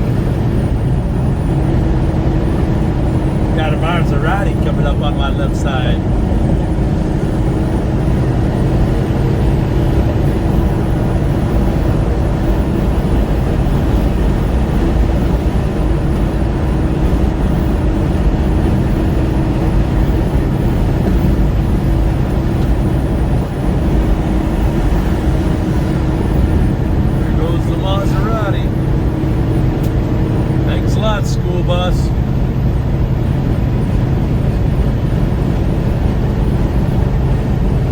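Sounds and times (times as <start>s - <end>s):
vehicle engine drone: 0.0s - 37.9s.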